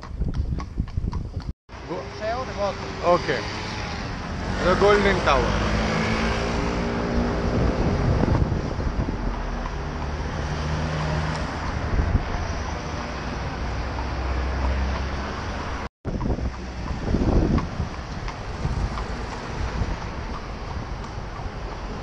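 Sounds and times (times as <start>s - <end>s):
wind rumble on microphone: 0.0s - 1.5s, 5.4s - 22.0s
street traffic noise: 0.0s - 22.0s
vehicle engine hum: 1.7s - 22.0s.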